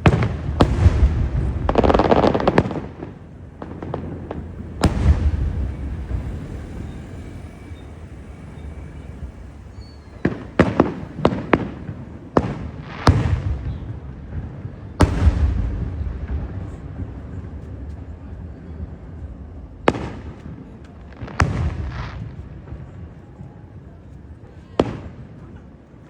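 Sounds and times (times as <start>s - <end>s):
fireworks bursting with echo: 0.0s - 25.9s.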